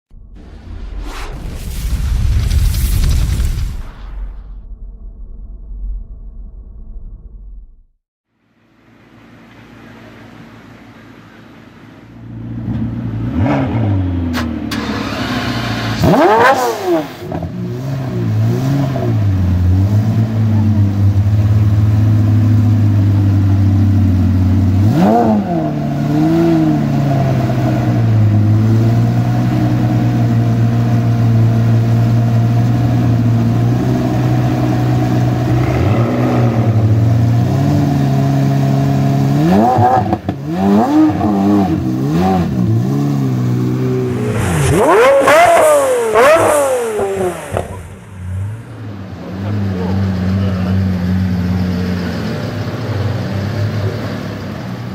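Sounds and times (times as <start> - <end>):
sports car engine idling and revving: 8.9 - 54.9.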